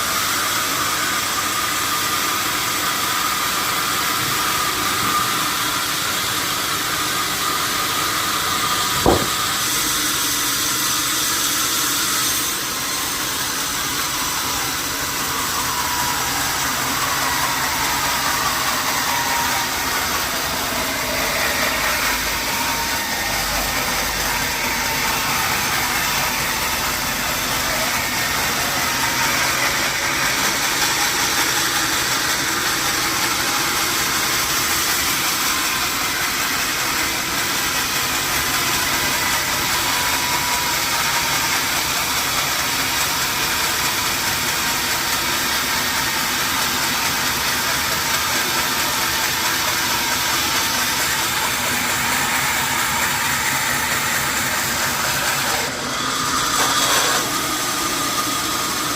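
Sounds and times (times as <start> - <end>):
sawmill machinery hissing: 0.0 - 58.9.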